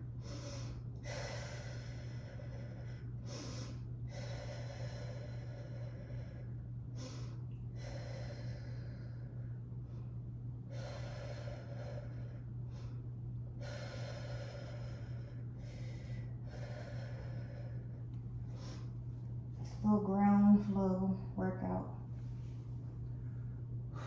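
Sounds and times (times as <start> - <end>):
woman breathing deeply: 0.0 - 19.4, 23.0 - 24.0
steady low hum: 0.0 - 24.0.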